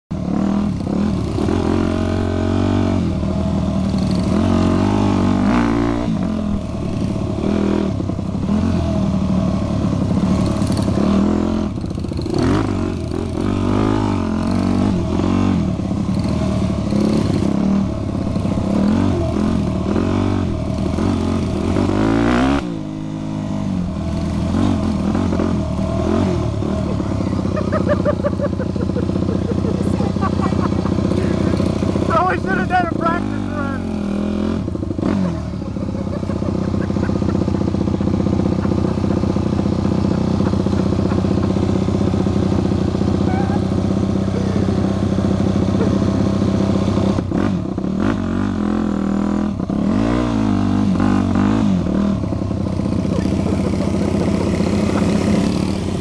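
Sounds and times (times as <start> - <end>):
mini bike engine revving: 0.2 - 56.0.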